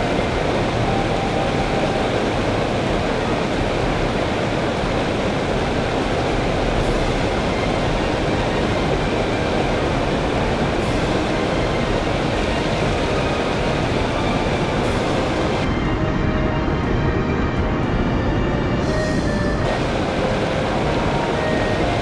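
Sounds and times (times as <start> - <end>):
river water rushing: 0.0 - 15.8, 19.0 - 22.0.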